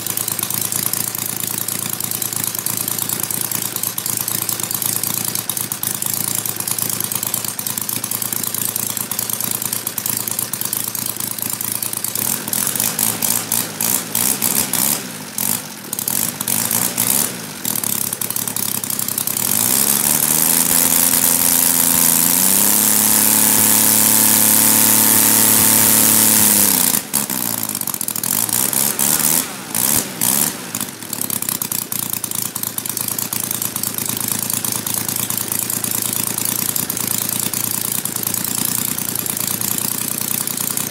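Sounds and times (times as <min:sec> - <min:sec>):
model aircraft engine revving: 0:00.0 - 0:40.9.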